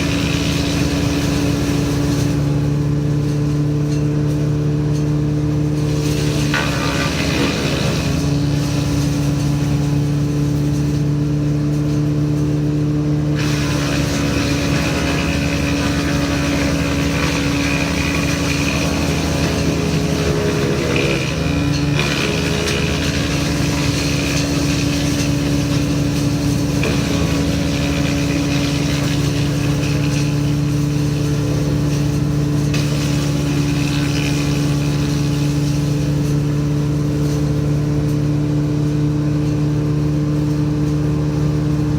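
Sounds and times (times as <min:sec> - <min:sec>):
wood chipping noise: 0:00.0 - 0:04.3, 0:05.6 - 0:12.5, 0:13.3 - 0:38.5
woodchipper engine running: 0:00.0 - 0:41.9.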